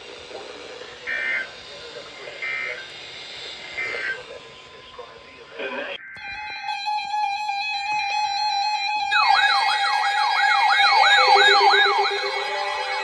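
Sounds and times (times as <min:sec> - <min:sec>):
siren-like sweep: 0:00.0 - 0:13.0
warbling high tone: 0:00.0 - 0:13.0.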